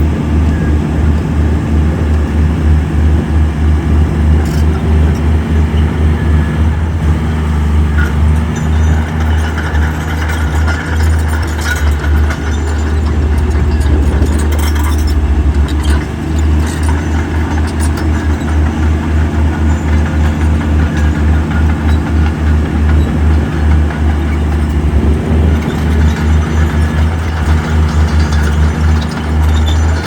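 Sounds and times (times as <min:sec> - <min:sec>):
heavy diesel engine rumbling: 0:00.0 - 0:30.0.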